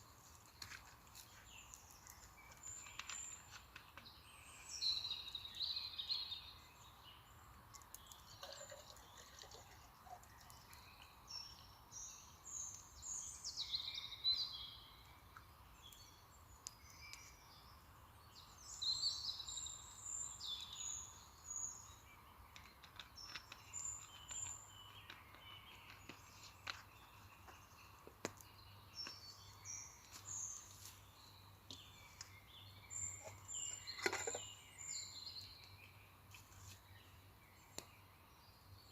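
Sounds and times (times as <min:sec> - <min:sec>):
faint steady background noise: 0:00.0 - 0:38.9
small birds singing and chirping: 0:00.0 - 0:38.9.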